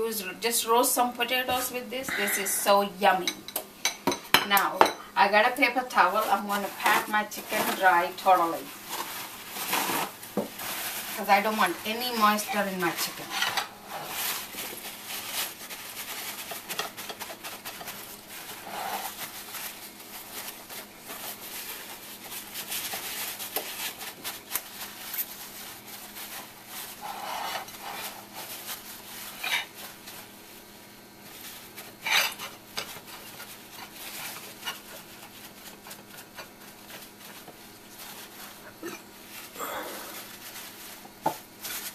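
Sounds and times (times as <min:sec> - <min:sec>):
paper towel rustling on chicken: 0:05.8 - 0:41.9.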